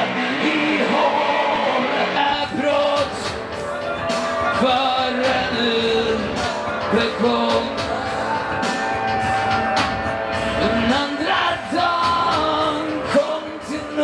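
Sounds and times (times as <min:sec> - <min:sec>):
man singing: 0:00.0 - 0:08.7, 0:10.5 - 0:14.0
drums and cymbals: 0:02.3 - 0:14.0.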